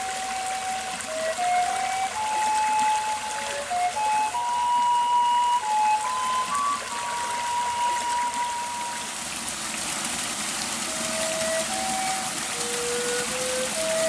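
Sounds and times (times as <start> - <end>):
slow flute-like music: 0.0 - 9.3, 10.7 - 14.0
waterfall rushing: 0.0 - 14.0.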